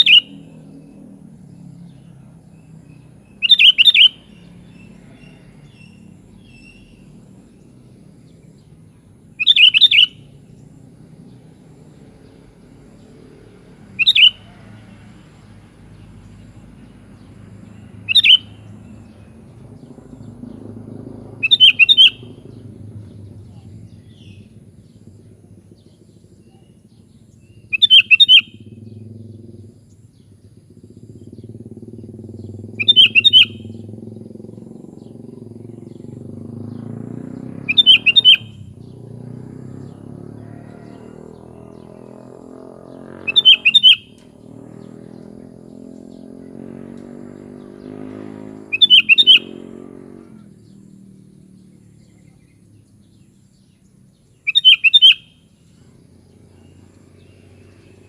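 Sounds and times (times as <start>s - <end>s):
bulbul calling: 0.0s - 58.0s.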